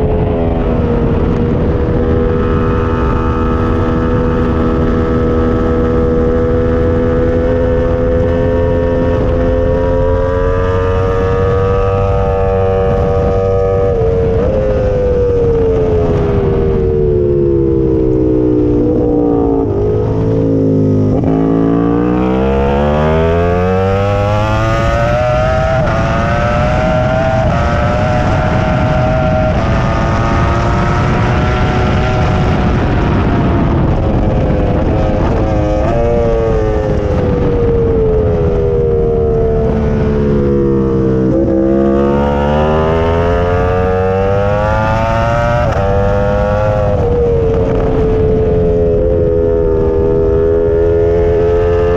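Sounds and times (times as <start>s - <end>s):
wind rushing: 0.0s - 51.9s.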